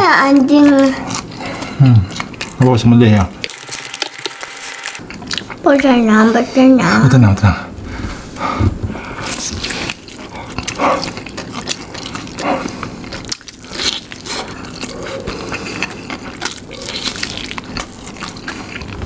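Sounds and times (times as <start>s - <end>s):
chewing fried chicken: 0.0s - 5.6s, 9.0s - 19.0s.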